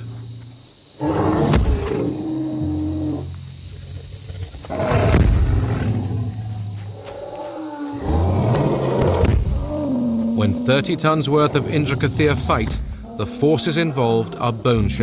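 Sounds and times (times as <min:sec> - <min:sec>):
low drawn-out animal calls: 0:01.0 - 0:15.0.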